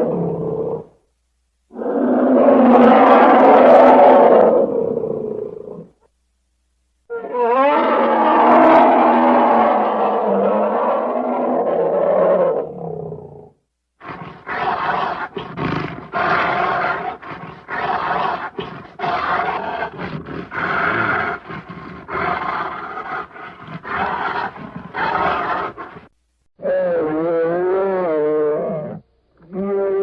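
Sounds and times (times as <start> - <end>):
bear roaring: 1.7 - 5.9, 7.1 - 30.0.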